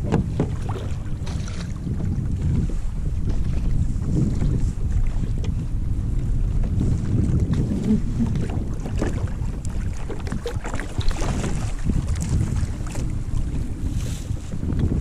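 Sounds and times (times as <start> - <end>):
water sloshing around a kayak: 0.0 - 15.0
wind rumbling on microphone: 0.0 - 15.0.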